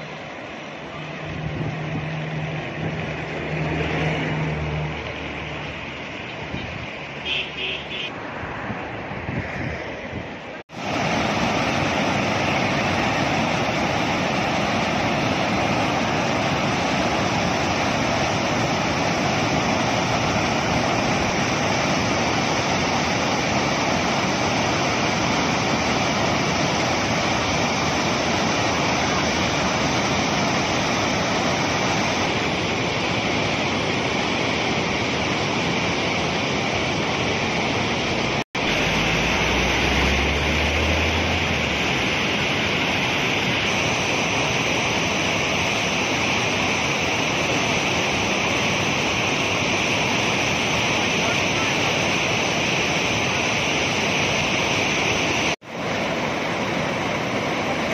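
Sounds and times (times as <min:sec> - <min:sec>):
river rushing over rapids: 0:00.0 - 0:57.9.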